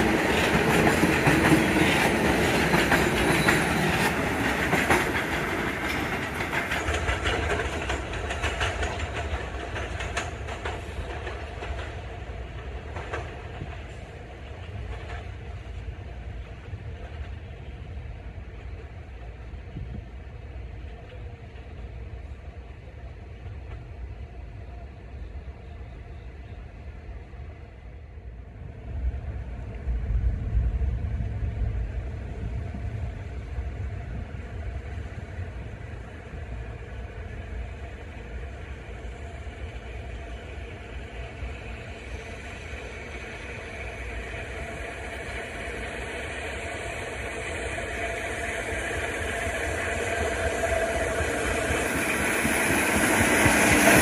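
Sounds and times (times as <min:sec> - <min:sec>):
approaching train: 0:00.0 - 0:54.0
distant rumble of subway trains: 0:00.0 - 0:54.0.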